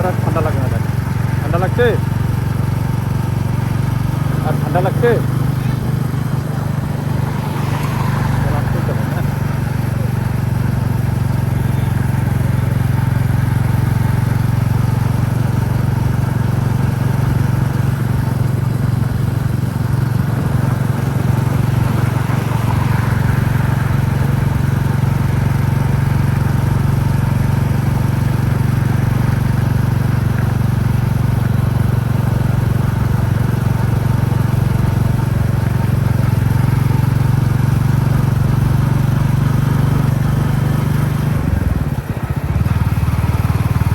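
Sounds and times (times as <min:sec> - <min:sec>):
motorcycle engine running: 0:00.0 - 0:43.9
road and wind noise: 0:00.0 - 0:43.9.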